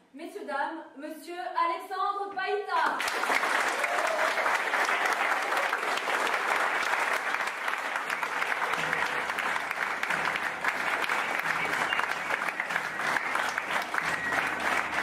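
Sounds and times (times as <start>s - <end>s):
audience applauding: 3.0s - 15.0s.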